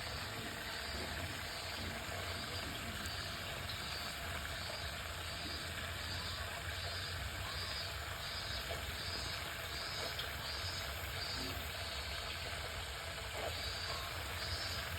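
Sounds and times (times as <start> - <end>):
running water: 0.0 - 14.9.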